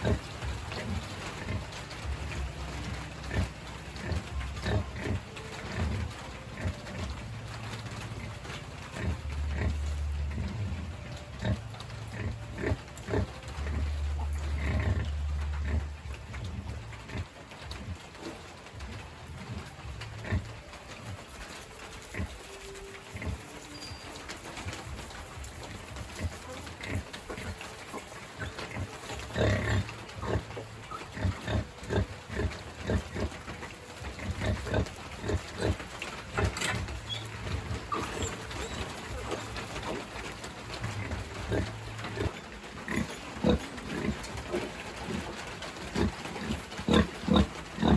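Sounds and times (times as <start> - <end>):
pigs grunting: 0.0 - 47.9.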